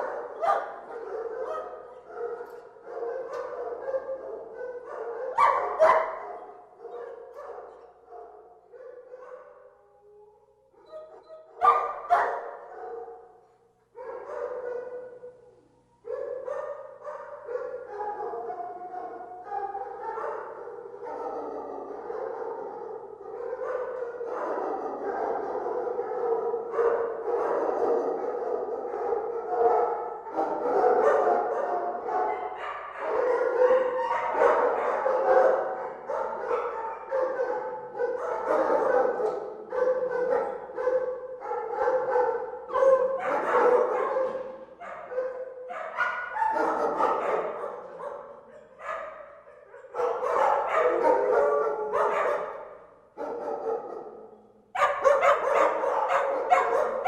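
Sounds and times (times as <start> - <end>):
many dogs barking: 0.0 - 15.4, 16.0 - 57.0.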